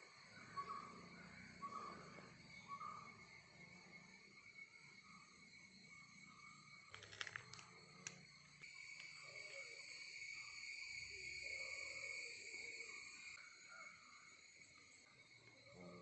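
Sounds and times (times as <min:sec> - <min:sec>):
insect chorus chirring: 0:00.0 - 0:16.0.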